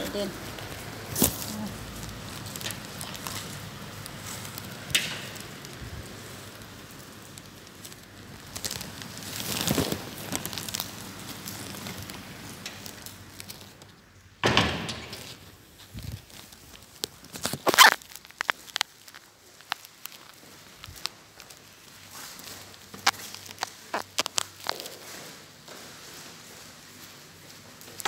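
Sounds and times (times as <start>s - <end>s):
rain pattering: 0.0s - 14.0s, 16.2s - 24.9s.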